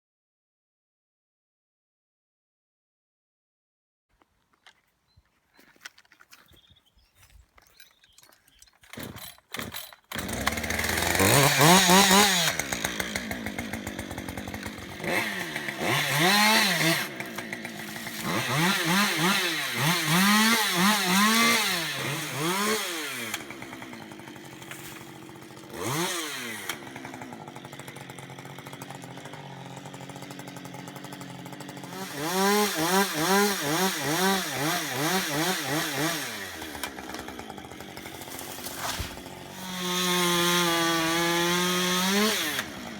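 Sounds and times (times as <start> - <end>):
chainsaw starting and revving: 7.2 - 42.9.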